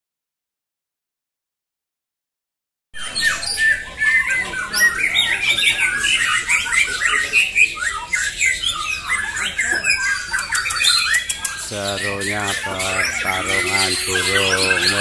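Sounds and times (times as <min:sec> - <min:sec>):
songbirds singing rapidly: 0:03.0 - 0:15.0.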